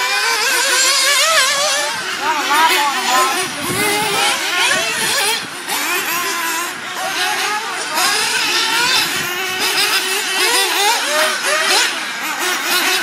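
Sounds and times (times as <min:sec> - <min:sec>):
rc buggy engines buzzing: 0:00.0 - 0:13.0.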